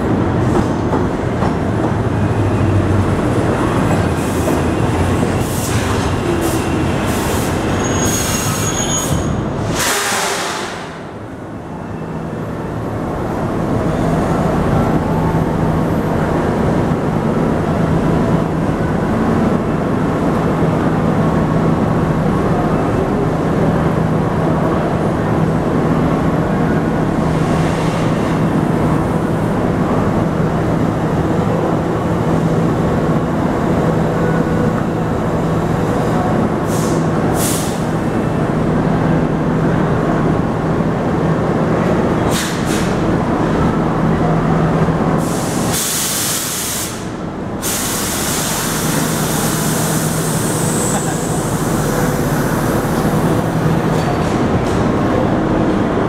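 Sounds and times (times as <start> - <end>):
subway train equipment hum: 0.0 - 56.0.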